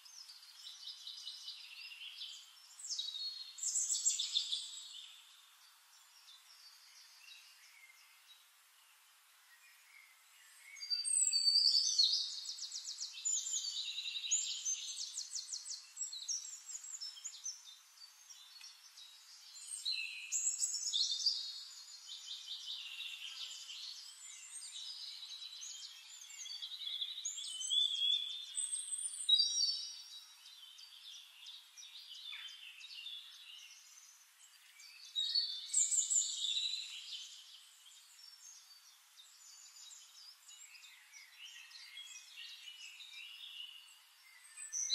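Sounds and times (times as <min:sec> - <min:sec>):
faint hiss: 0:00.0 - 0:44.9
songbirds trilling and chirping: 0:00.0 - 0:44.9.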